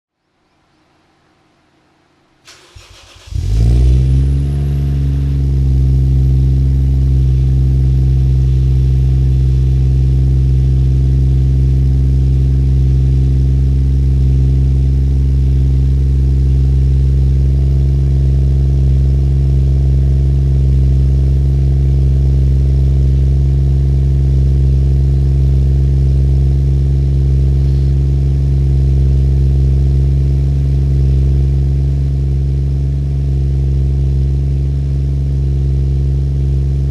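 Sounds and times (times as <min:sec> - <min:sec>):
car engine starting and idling: 0:02.4 - 0:36.9.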